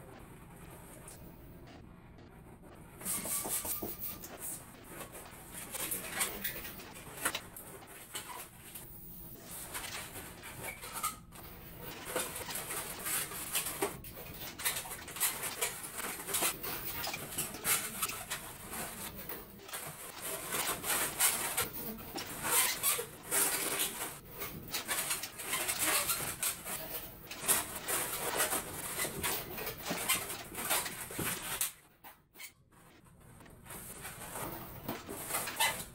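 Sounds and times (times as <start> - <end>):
balloons squeaking and rubbing: 0.6 - 35.9.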